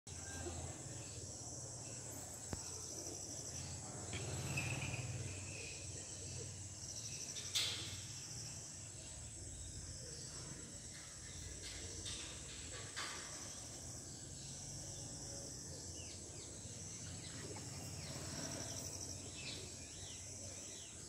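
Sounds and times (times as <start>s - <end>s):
insects chirping: 0.1s - 21.0s.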